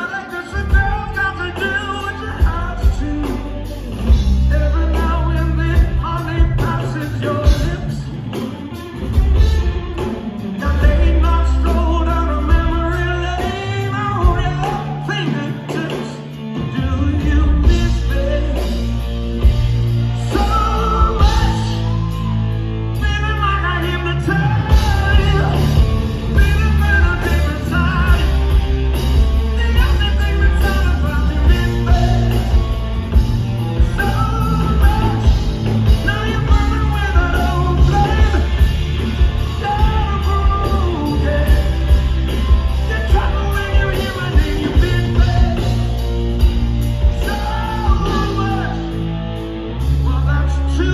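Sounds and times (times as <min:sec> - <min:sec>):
bass and drums: 0:00.0 - 0:50.9
distorted electric guitar riff: 0:00.0 - 0:50.9
singer's vocals: 0:00.0 - 0:50.9.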